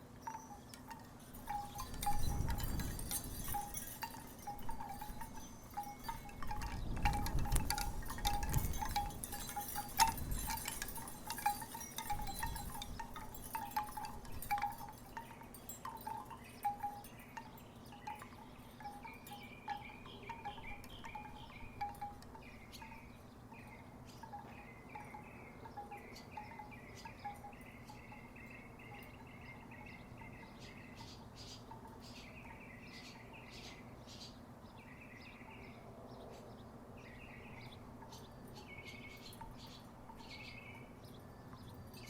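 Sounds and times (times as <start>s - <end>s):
wooden wind chimes clacking: 0.0s - 33.4s, 37.2s - 42.0s.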